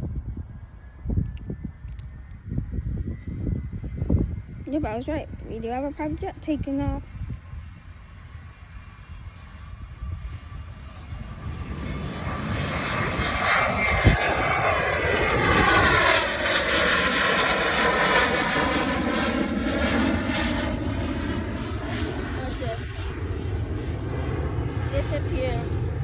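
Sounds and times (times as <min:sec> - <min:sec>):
falling jet whine: 0:00.0 - 0:26.0
jet engines roaring: 0:00.0 - 0:26.0.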